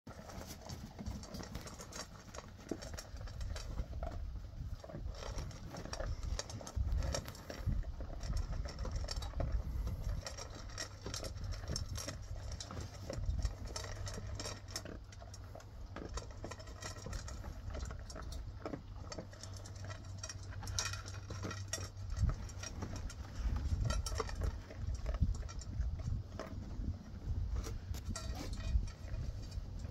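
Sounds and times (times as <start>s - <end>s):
dogs chewing and crunching: 0.1s - 29.9s.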